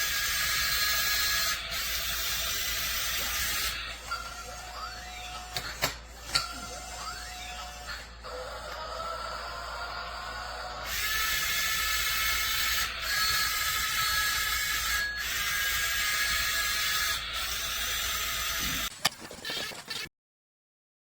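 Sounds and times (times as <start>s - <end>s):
toy electric motors whirring: 0.0s - 20.1s.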